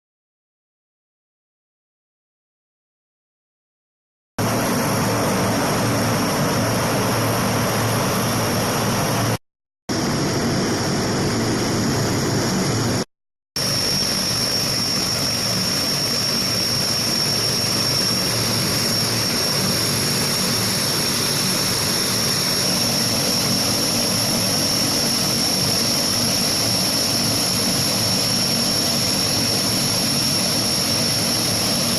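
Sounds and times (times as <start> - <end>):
constant high whine: 4.4 - 31.9
turboprop engines roaring: 4.4 - 31.9.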